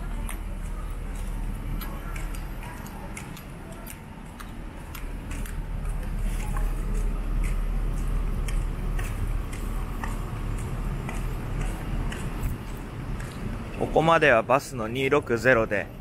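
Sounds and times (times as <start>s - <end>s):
footsteps on paving stones: 0.0s - 14.0s
city traffic rumble: 0.0s - 16.0s.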